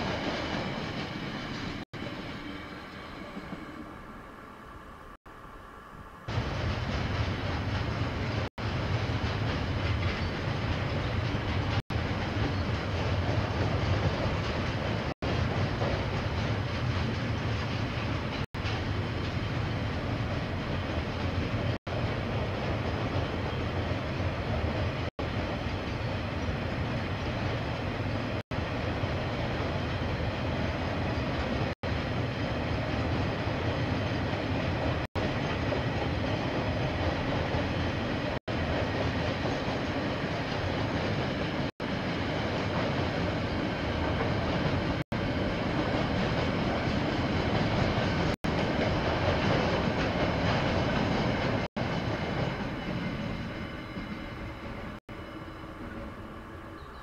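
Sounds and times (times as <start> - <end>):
train wagons on rails: 0.0 - 5.2, 5.9 - 57.0.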